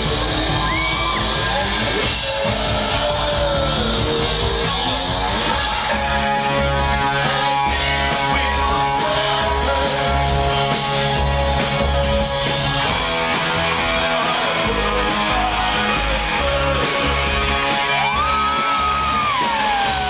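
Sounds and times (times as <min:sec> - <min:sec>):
live band music: 0:00.0 - 0:20.0
person singing: 0:00.0 - 0:20.0
pulsing bass: 0:00.0 - 0:20.0.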